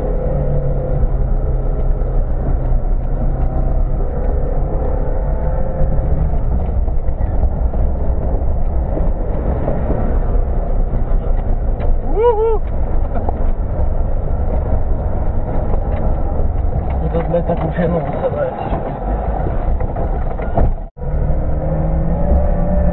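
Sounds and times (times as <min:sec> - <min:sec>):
engine rumbling inside cabin: 0:00.0 - 0:22.9.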